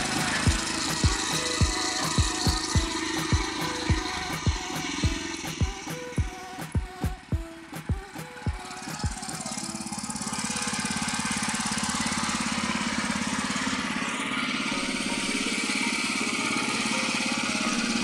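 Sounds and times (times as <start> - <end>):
cultivator engine running: 0.0 - 18.0.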